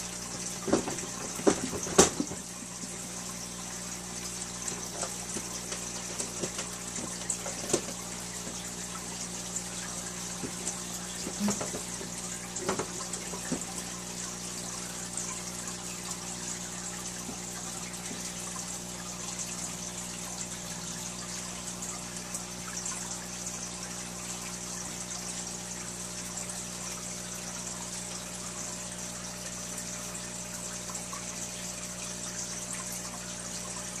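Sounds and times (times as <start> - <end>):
water trickling: 0.0 - 34.0.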